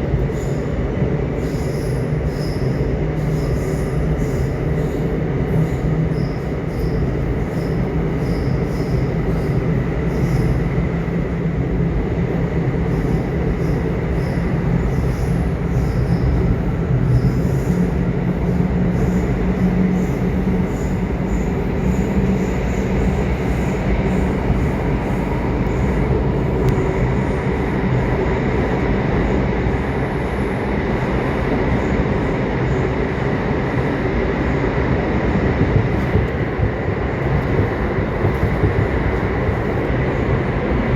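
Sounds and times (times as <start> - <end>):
subway train rumbling: 0.0 - 40.9.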